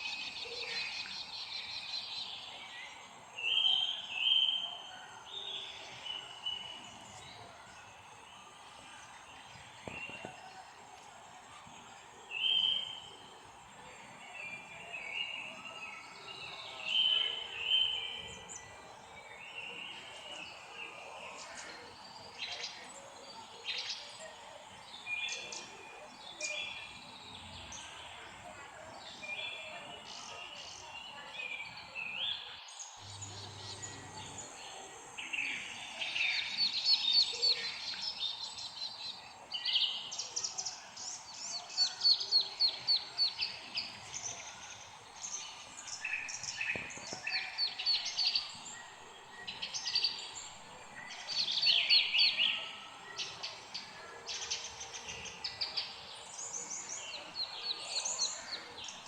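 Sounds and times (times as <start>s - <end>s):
songbirds singing and trilling: 0.0s - 59.0s.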